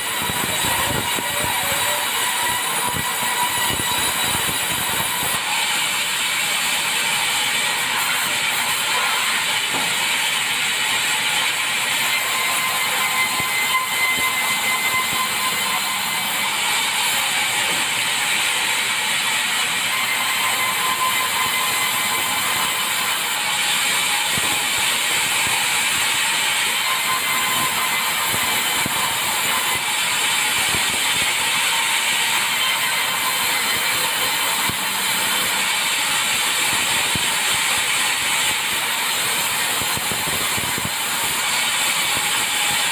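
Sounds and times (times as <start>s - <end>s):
sawmill blade cutting wood: 0.0s - 42.9s.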